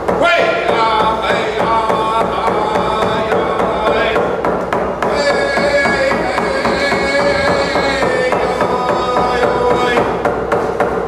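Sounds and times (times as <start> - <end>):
man singing long held notes: 0.5 - 4.4, 5.0 - 10.2.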